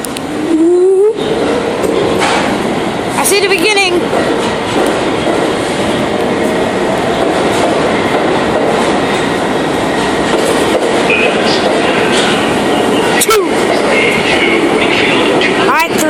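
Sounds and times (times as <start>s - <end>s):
subway train wheels on rails: 0.0s - 16.0s.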